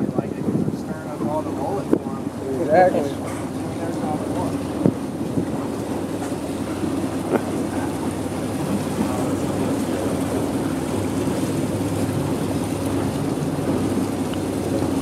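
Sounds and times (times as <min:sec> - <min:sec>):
boat motor running: 0:00.0 - 0:15.0
water washing along hull: 0:00.0 - 0:15.0.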